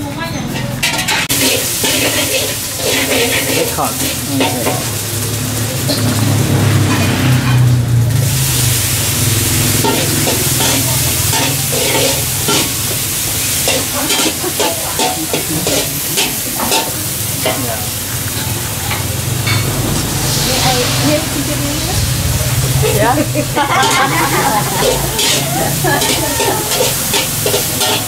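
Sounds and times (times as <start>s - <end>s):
metal spatula scraping wok: 0.3s - 28.0s
paste sizzling in a wok: 0.6s - 28.0s.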